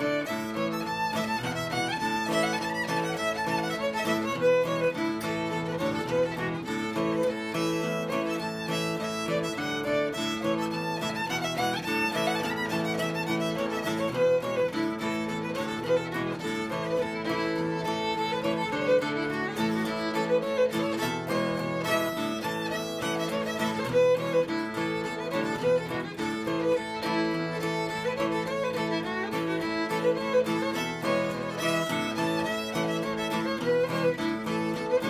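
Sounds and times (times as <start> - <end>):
fiddle playing a tune: 0.0 - 35.0.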